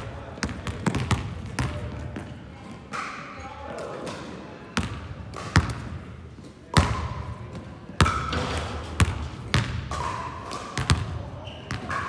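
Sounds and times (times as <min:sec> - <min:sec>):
basketballs bouncing on hall floor: 0:00.0 - 0:03.8, 0:04.7 - 0:12.0.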